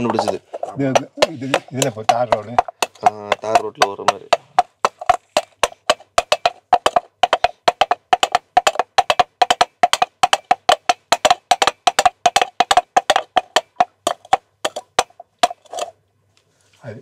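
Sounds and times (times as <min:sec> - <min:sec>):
coconut shell hoof clops: 0:00.0 - 0:16.0.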